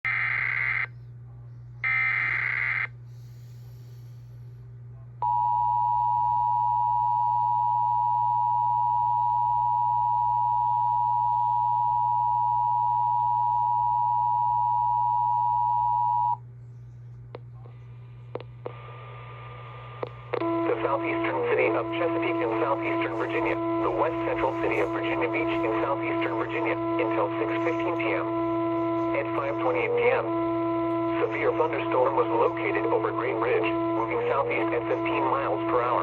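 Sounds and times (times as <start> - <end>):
low steady hum: 0.1 - 36.0.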